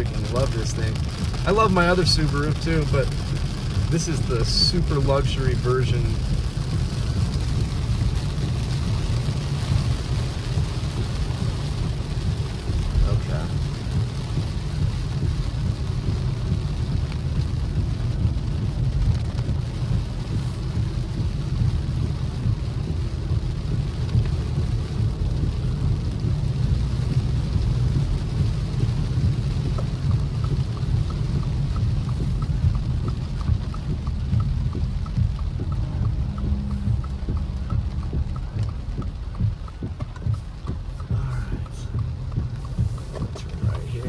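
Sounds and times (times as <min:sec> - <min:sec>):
car tyres on wet road rumble: 0:00.0 - 0:44.0
faint regular ticking: 0:00.0 - 0:44.0
heavy rain on a car: 0:00.0 - 0:44.0.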